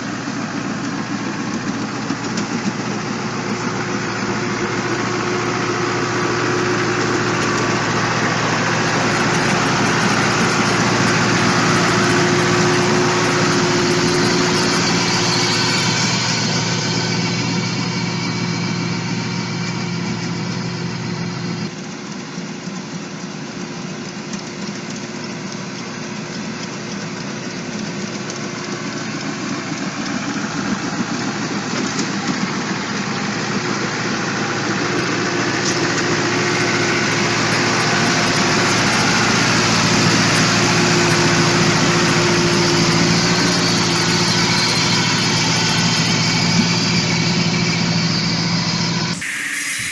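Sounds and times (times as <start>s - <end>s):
heavy machine engine running: 0.0s - 23.2s, 24.0s - 49.9s.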